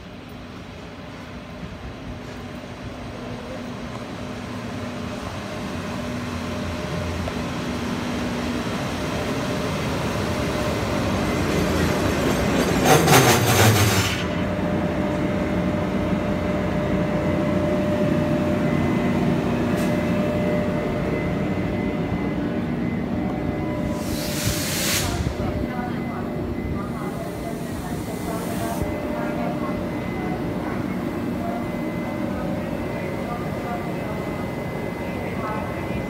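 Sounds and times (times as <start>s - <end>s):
train rumble approaching: 0.0s - 36.0s.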